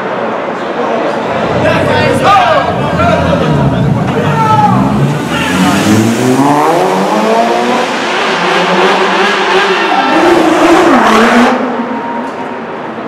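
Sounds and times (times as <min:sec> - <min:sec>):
car engines revving in tunnel: 0:00.1 - 0:13.0.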